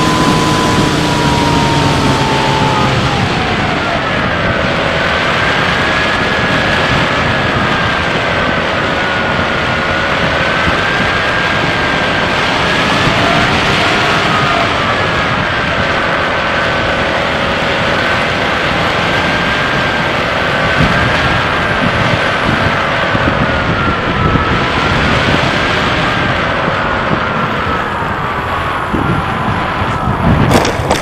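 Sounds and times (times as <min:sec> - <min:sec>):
steady whine: 0:00.0 - 0:31.0.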